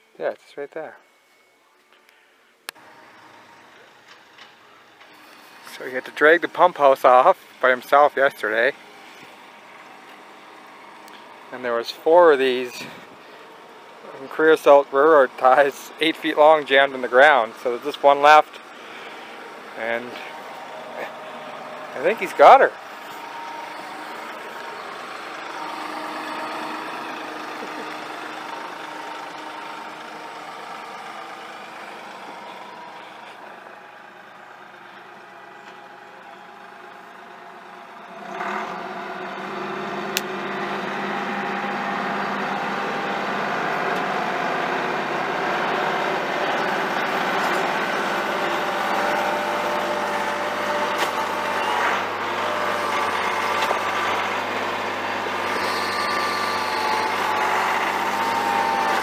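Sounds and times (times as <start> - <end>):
tractor engine revving: 2.7 - 59.0.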